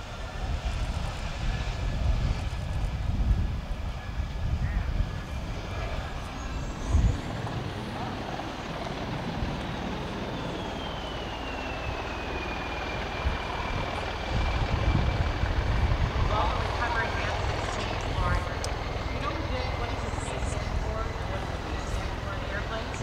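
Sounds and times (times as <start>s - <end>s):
jet engine rumble and whine: 0.0s - 23.0s
wind buffeting microphone: 0.0s - 23.0s.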